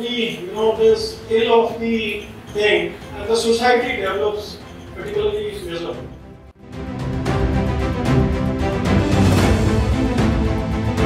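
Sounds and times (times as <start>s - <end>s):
background music with beat: 0.9s - 11.0s.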